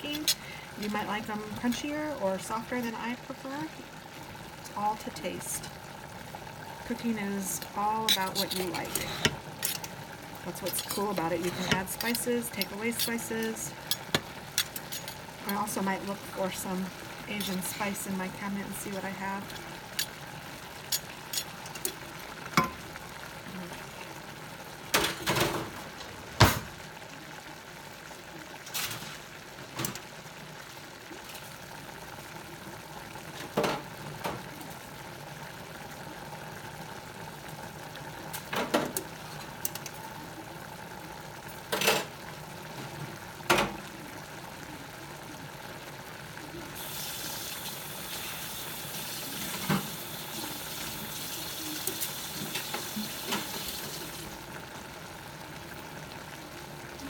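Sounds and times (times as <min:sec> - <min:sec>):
stir-fry sizzling in a pan: 0:00.0 - 0:57.0.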